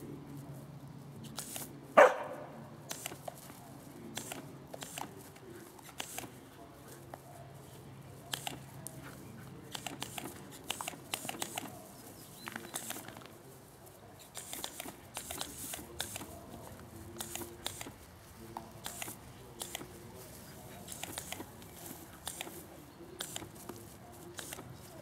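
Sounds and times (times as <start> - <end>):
dogs scampering on grass: 0.0 - 25.0.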